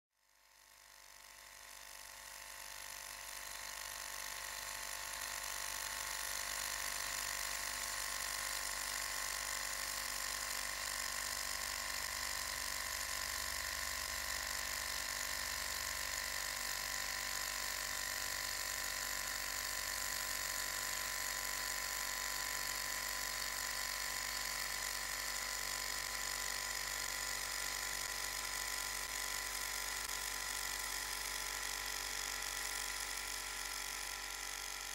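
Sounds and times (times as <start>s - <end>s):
model stirling engine running: 0.2s - 34.9s.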